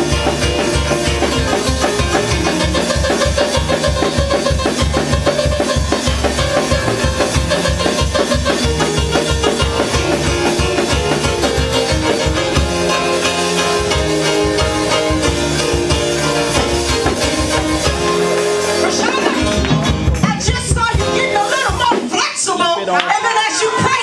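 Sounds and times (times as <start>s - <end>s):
steady drum beat: 0.0s - 22.8s
live band playing praise music: 0.0s - 24.0s.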